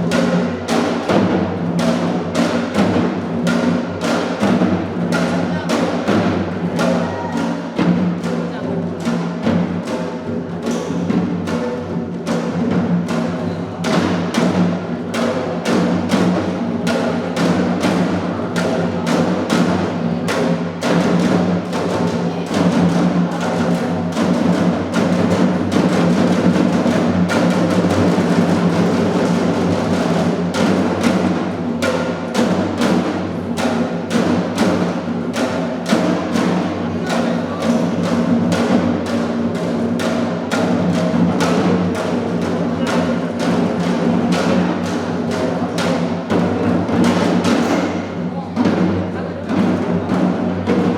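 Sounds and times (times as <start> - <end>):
drums in quick steady rhythm: 0.0 - 50.9.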